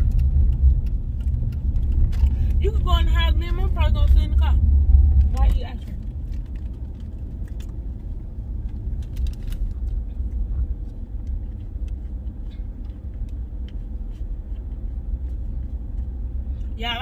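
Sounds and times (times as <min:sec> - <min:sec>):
car cabin rumble: 0:00.0 - 0:17.0.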